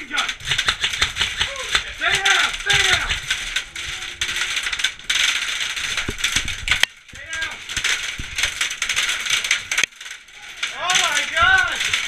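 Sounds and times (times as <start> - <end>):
airsoft guns firing full-auto: 0.0 - 12.0.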